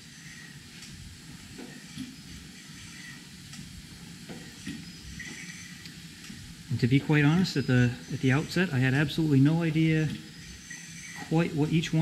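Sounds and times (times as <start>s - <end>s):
steam engine hissing: 0.0s - 12.0s.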